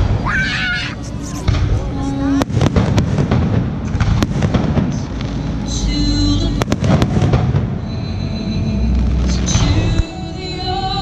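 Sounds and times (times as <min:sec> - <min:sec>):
low rumbling: 0:00.0 - 0:11.0.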